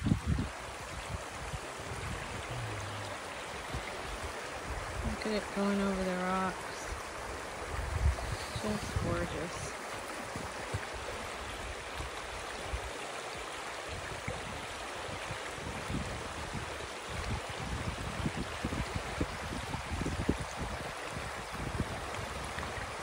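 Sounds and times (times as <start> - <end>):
creek water rushing over rocks: 0.0 - 23.0.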